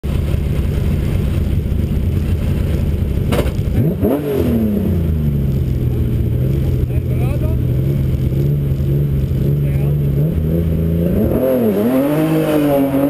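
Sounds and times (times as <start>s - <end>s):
rally car engine idling rough: 0.0s - 11.2s
engine revving: 2.2s - 13.0s.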